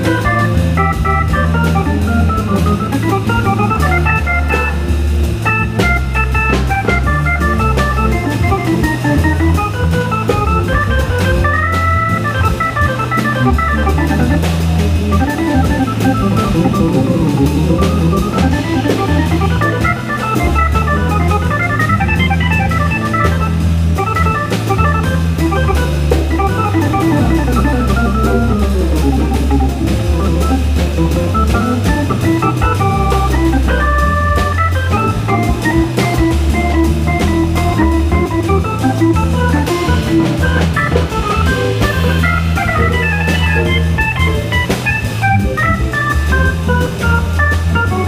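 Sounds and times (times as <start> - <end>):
drum kit with cymbals: 0.0 - 48.0
organ playing quick runs: 0.0 - 48.0.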